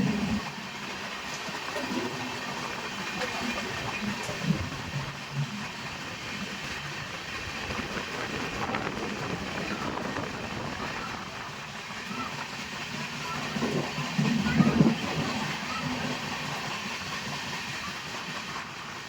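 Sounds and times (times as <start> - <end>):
moving train noise: 0.0 - 19.0.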